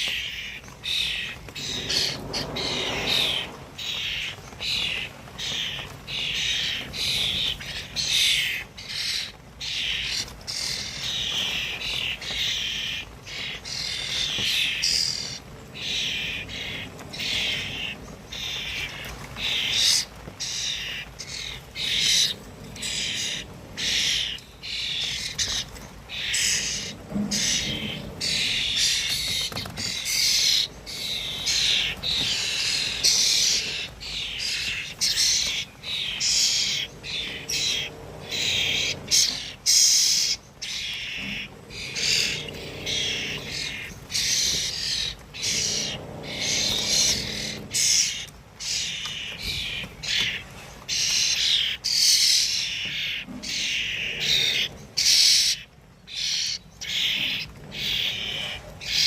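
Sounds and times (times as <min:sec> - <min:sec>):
birds chirping and chattering: 0:00.0 - 0:59.0.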